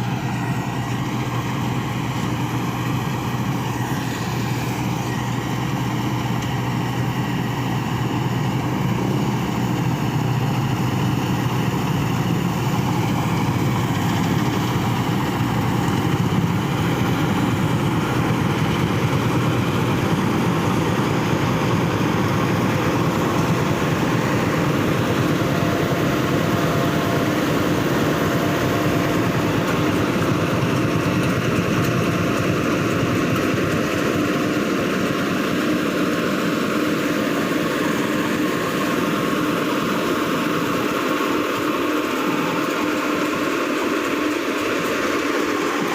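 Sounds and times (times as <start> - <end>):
harvester engine drone: 0.0 - 45.9.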